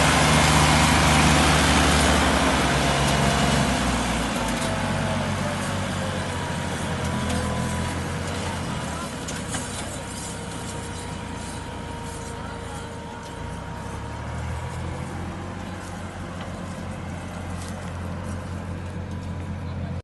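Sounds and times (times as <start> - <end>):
farm machinery engine humming: 0.0 - 20.0.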